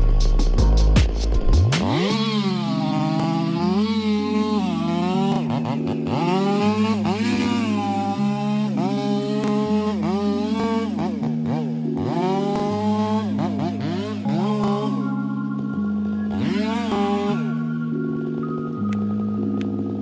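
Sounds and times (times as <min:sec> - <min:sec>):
background music: 0:00.0 - 0:20.0
chainsaw revving: 0:01.5 - 0:19.5.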